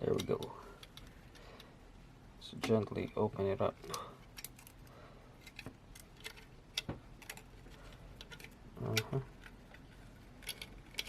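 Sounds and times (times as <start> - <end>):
small parts and tools clicking: 0.0 - 1.8, 3.8 - 11.0.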